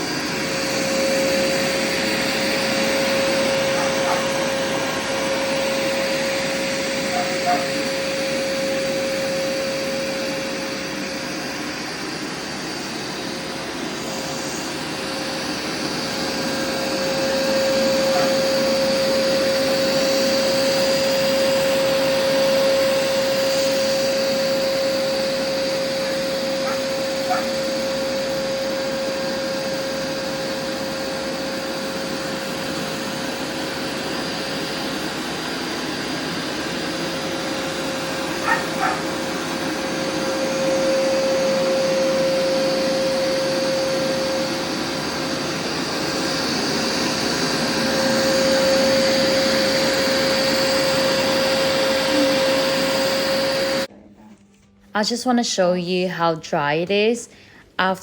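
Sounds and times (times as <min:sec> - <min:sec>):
carpet washer motor whine: 0:00.0 - 0:54.0.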